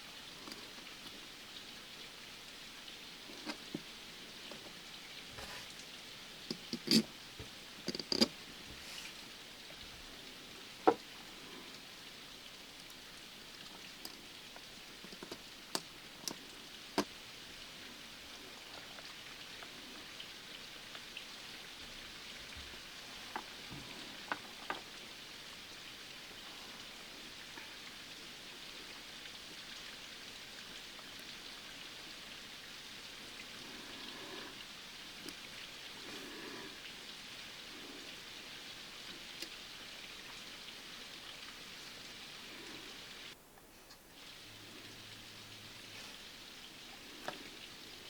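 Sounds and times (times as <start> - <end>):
rain falling: 0.0 - 43.4, 44.1 - 48.0.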